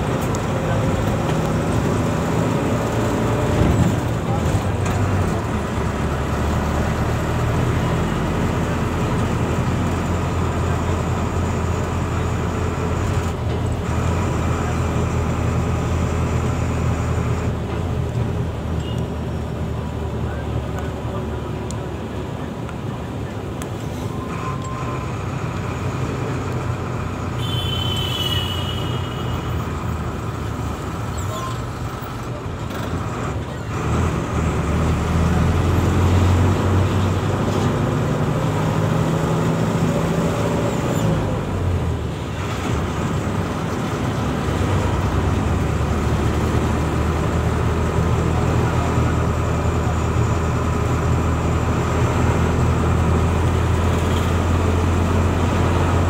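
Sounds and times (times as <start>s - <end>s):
vehicle engine hum and road noise: 0.0s - 56.0s.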